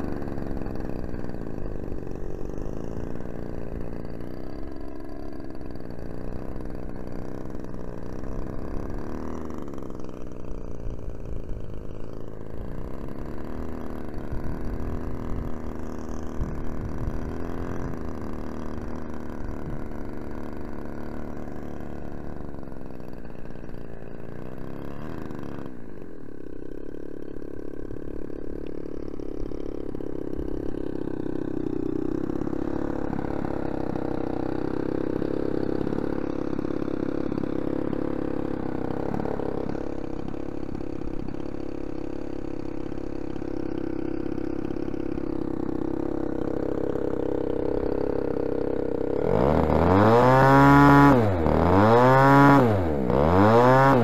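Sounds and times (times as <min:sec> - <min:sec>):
model airplane engine running: 0:00.0 - 0:54.0.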